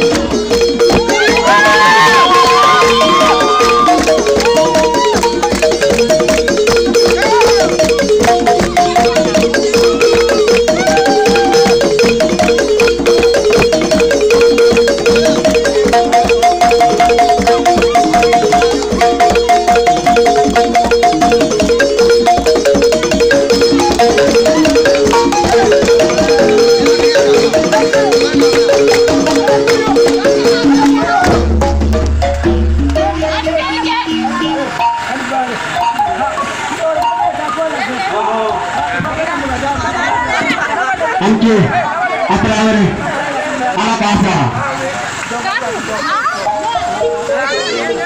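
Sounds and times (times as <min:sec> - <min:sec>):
wooden xylophones playing dance music: 0:00.0 - 0:42.7, 0:45.4 - 0:48.0.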